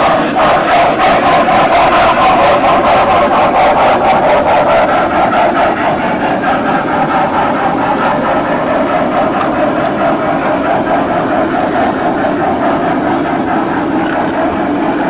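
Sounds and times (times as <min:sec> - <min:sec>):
model train rolling: 0:00.0 - 0:15.0.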